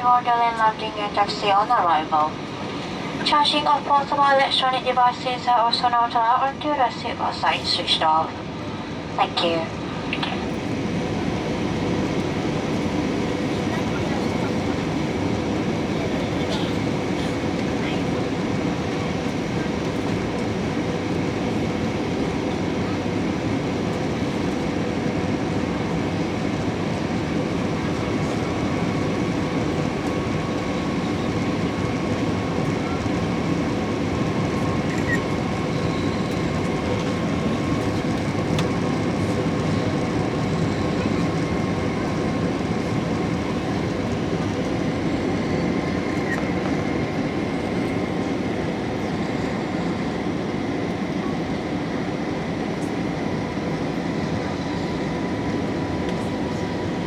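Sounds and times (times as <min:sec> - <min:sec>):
engine and airflow rush: 0:00.0 - 0:57.0.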